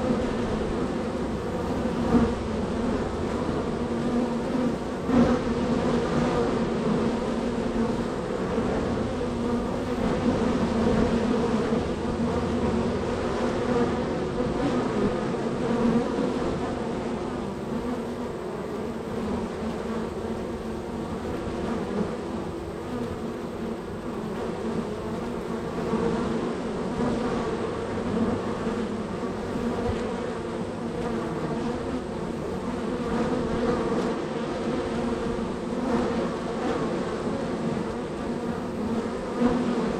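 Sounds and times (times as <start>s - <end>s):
honey bees buzzing: 0.0s - 39.9s.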